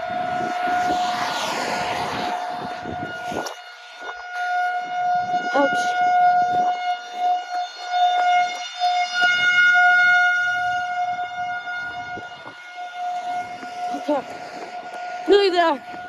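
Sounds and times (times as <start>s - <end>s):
tornado warning siren: 0.0s - 16.0s.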